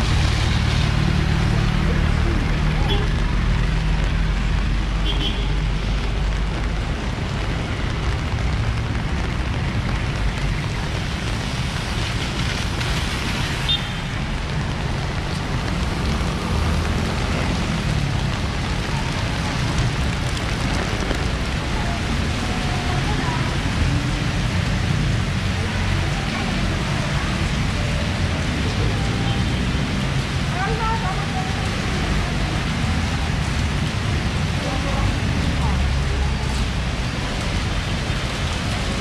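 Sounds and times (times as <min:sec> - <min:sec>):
rain hissing: 0:00.0 - 0:39.0
street traffic rumble: 0:00.0 - 0:39.0
vehicles passing on wet road: 0:00.0 - 0:39.0.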